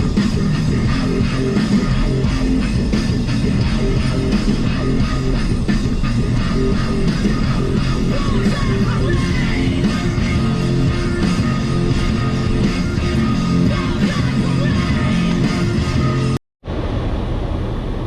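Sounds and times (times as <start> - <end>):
distorted electric guitar: 0.0 - 16.4
heavy rock music: 0.0 - 16.4.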